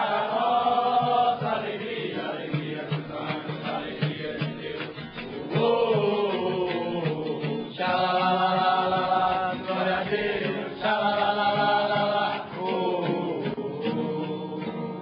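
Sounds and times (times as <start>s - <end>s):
men singing in unison: 0.0s - 15.0s.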